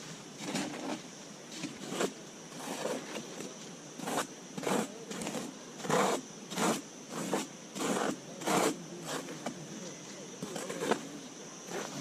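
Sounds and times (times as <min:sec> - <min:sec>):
scraping sandy soil: 0:00.0 - 0:12.0.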